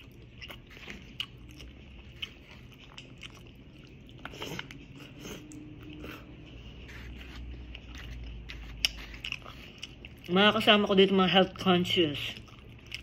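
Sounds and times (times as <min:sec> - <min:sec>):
chewing with wet smacks: 0:00.0 - 0:13.0.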